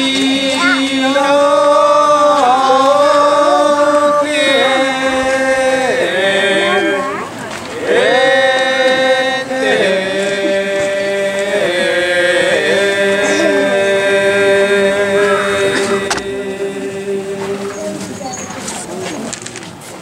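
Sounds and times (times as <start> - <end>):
voices chanting held notes: 0.0 - 19.3.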